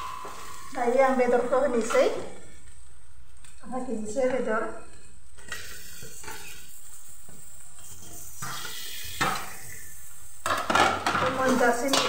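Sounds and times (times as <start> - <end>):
chicken sizzling in pot: 0.0 - 2.9, 4.9 - 12.0.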